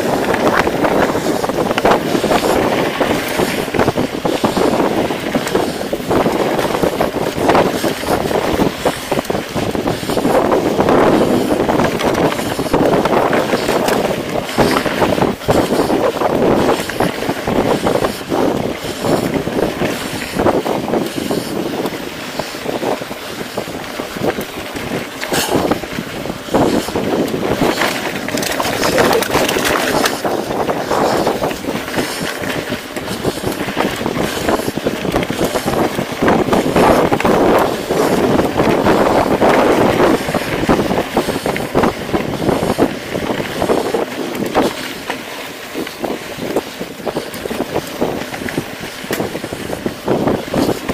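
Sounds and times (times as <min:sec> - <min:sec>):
bike rattling over stones: 0:00.0 - 0:50.9
tyres crunching over gravel: 0:00.0 - 0:50.9
wind rush on microphone: 0:00.0 - 0:50.9.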